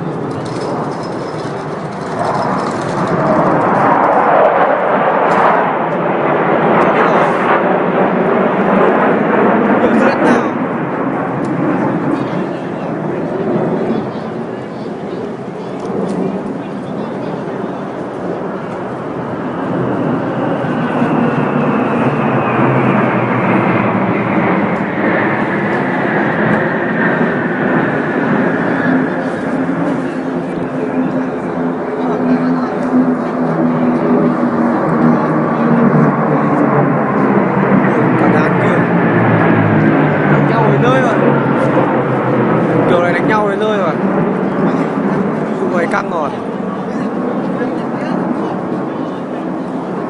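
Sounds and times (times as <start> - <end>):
fighter jet flying past: 0.0 - 50.0.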